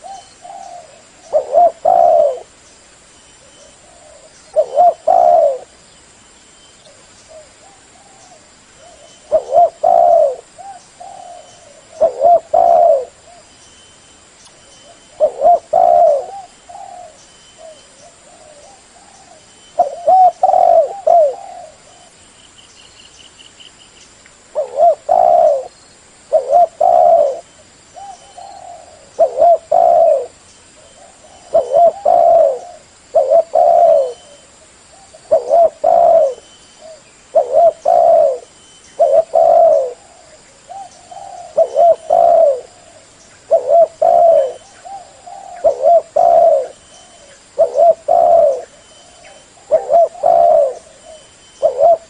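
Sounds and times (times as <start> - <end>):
dove cooing: 0.0 - 2.6, 3.4 - 5.8, 6.9 - 13.5, 14.8 - 22.2, 24.5 - 52.0.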